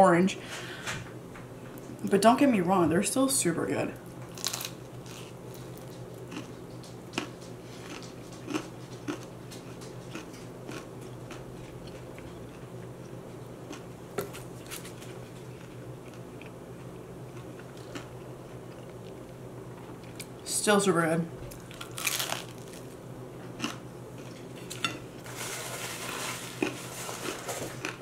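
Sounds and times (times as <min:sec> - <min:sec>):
steady low hum: 0:00.0 - 0:28.0
crunchy pastry chewing: 0:04.3 - 0:20.4, 0:21.5 - 0:28.0.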